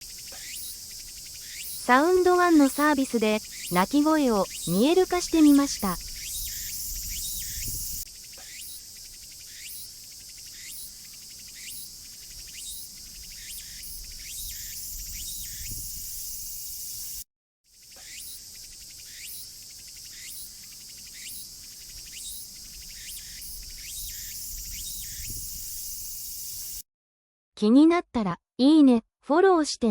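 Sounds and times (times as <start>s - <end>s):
cicada singing: 0.0s - 26.8s
steady high-pitched hiss: 0.0s - 26.8s.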